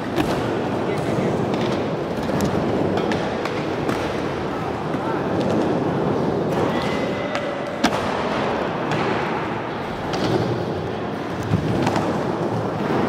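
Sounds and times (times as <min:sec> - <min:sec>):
skateboard clacks: 0:00.0 - 0:13.0.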